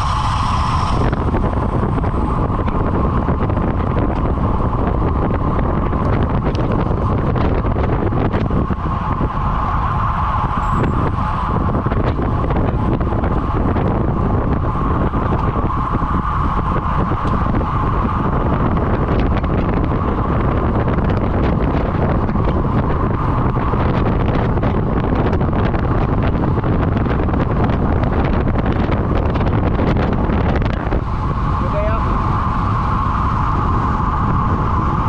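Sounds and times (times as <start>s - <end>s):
road rumble: 0.0s - 35.0s
wind buffeting microphone: 0.0s - 35.0s.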